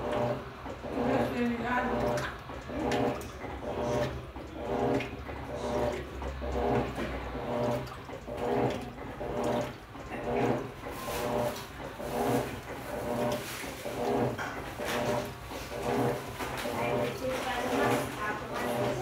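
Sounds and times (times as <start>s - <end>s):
washing machine motor whirring: 0.0s - 19.0s
water sloshing: 0.0s - 19.0s.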